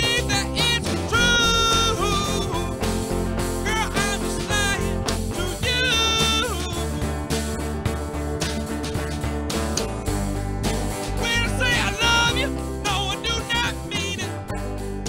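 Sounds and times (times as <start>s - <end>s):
band playing: 0.0s - 15.0s
lead guitar bending notes: 0.0s - 15.0s.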